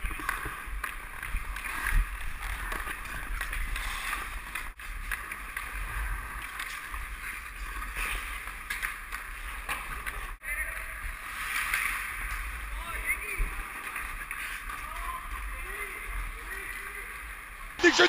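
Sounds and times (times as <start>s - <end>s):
skate blades scraping on ice: 0.1s - 10.3s, 11.1s - 12.7s, 13.6s - 16.9s.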